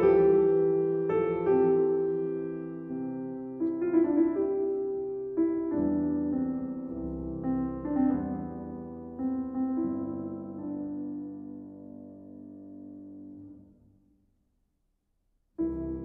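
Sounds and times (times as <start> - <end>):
grand piano playing: 0.0 - 13.7, 15.6 - 16.0.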